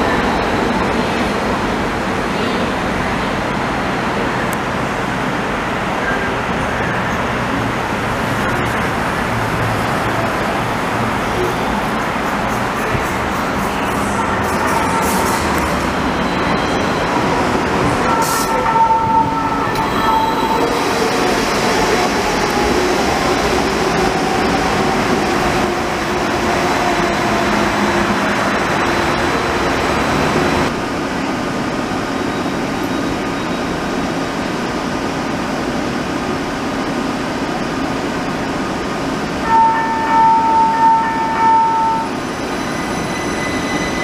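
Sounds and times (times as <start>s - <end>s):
tram wheels rumbling on rails: 0.0s - 44.0s.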